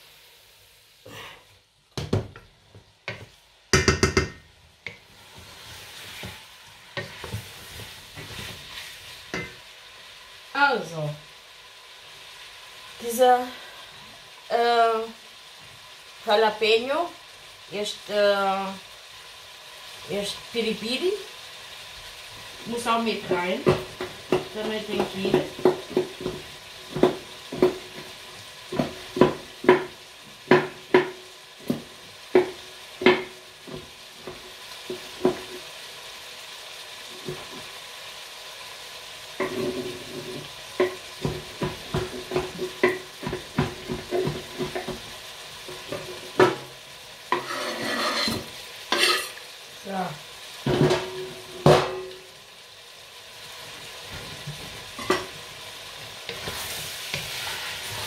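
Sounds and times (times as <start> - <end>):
simmering pot hiss: 0.0 - 58.0.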